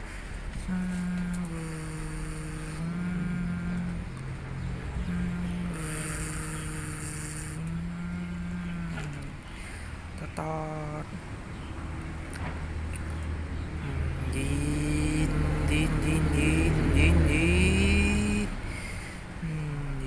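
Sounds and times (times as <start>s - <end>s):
person humming low notes: 0.0s - 20.0s.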